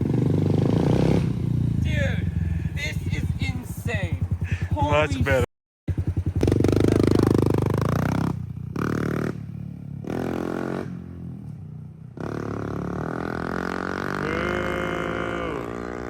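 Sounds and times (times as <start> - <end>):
small motorcycle engine revving: 0.0 - 16.0.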